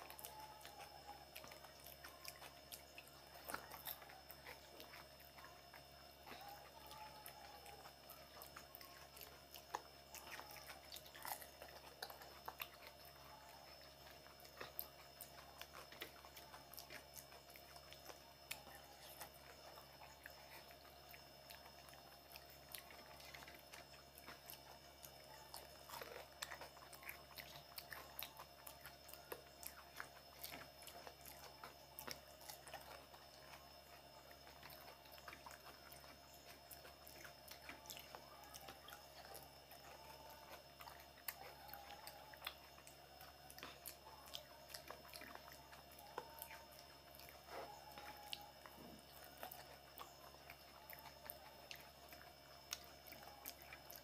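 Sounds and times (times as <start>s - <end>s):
chewing and crunching: 0.0s - 54.0s.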